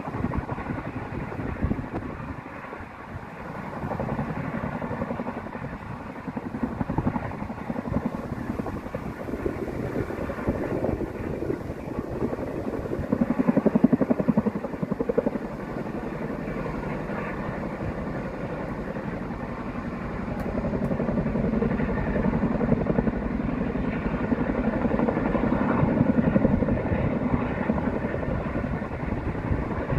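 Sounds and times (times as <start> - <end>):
helicopter rotor beating: 0.0 - 29.9.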